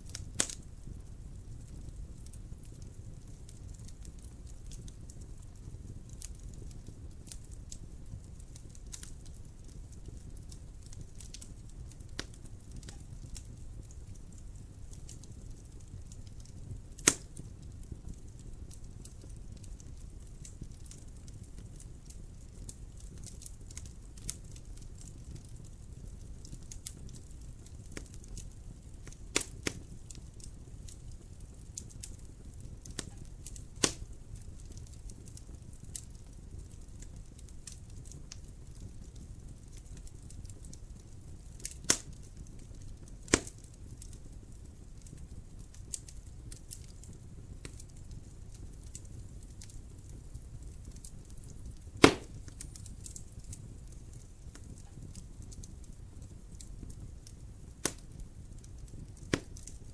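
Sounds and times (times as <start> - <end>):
low rumble of flames: 0.0 - 59.9
wood fire popping: 0.0 - 59.9.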